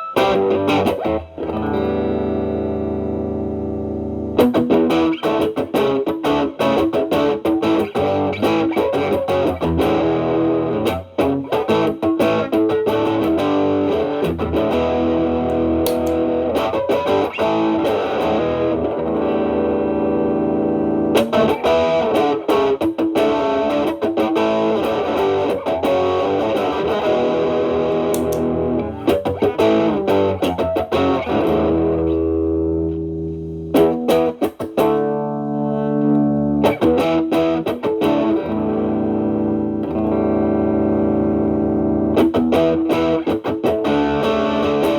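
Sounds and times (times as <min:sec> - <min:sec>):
overdriven electric guitar lead: 0:00.0 - 0:44.9.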